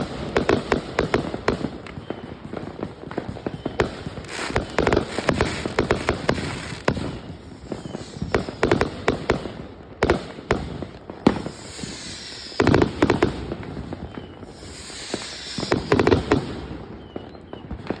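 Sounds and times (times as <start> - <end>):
high hissing crackle: 0.0 - 17.2
firework bangs: 0.0 - 18.0.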